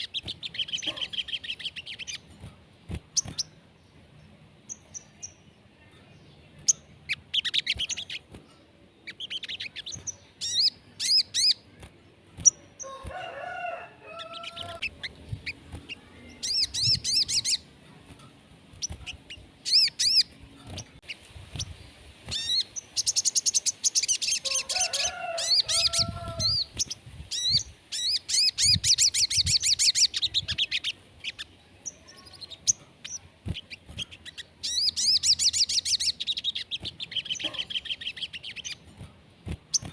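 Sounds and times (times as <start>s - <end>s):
songbird trilling chirps: 0.0s - 2.4s, 3.0s - 39.9s.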